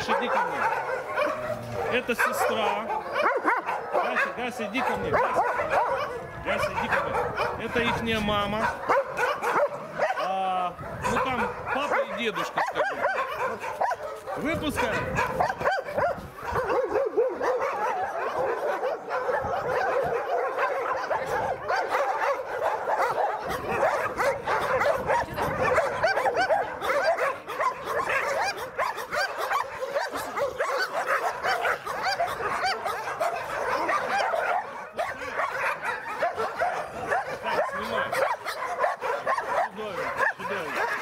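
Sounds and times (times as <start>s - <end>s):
dogs barking and yelping: 0.0s - 41.0s.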